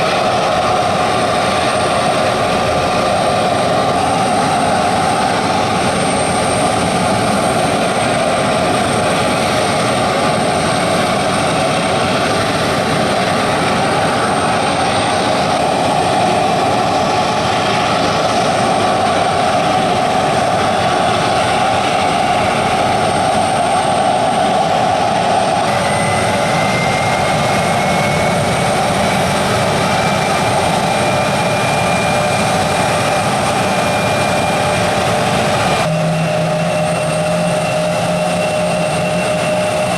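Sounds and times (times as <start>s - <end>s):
engine spooling up: 0.0s - 39.9s
jet engines roaring: 0.0s - 39.9s
thin high whine: 0.0s - 39.9s.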